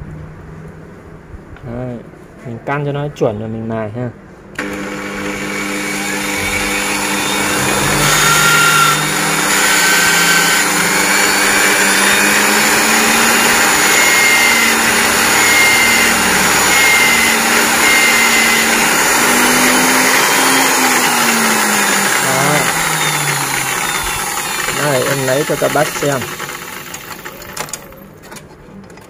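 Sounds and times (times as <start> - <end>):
grinder whirring: 4.6 - 28.2.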